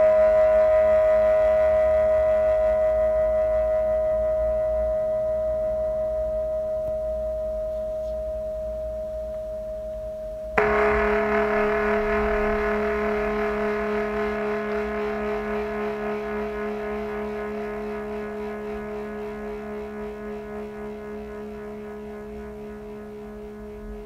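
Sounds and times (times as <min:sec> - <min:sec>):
lower bowl struck with wobble: 0:00.0 - 0:24.0
singing bowl ringing: 0:00.0 - 0:24.0.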